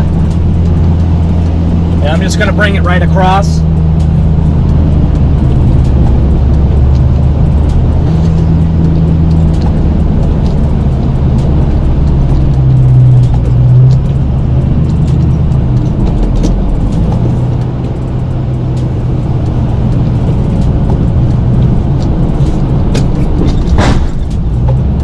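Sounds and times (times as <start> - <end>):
truck engine working under load: 0.0 - 25.0.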